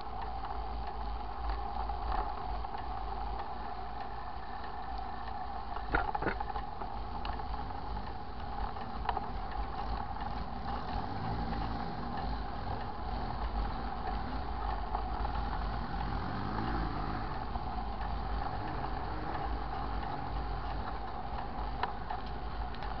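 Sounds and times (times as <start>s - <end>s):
bicycle rolling on pavement: 0.0s - 23.0s.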